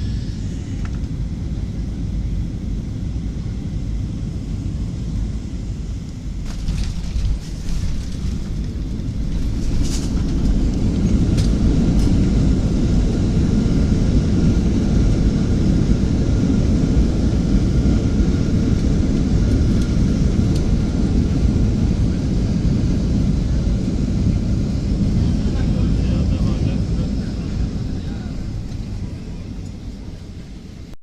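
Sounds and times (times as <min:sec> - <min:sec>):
airliner engine rumble in cabin: 0:00.0 - 0:31.0.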